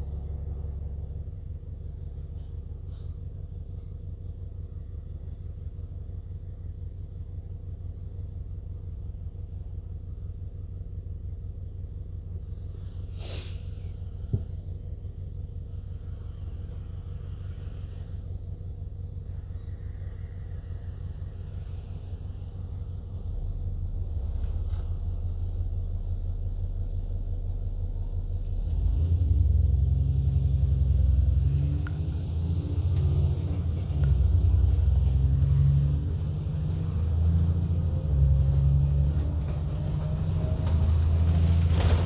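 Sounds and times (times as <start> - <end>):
bus engine rumbling: 0.0 - 42.0.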